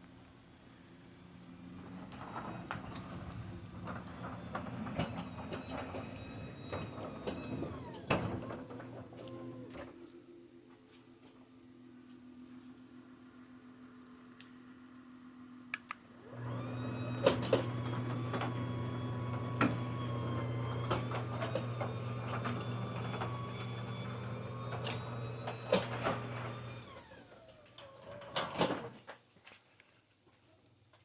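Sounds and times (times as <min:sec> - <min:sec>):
garage door opener motor whine: 0:00.7 - 0:15.4, 0:16.0 - 0:29.0.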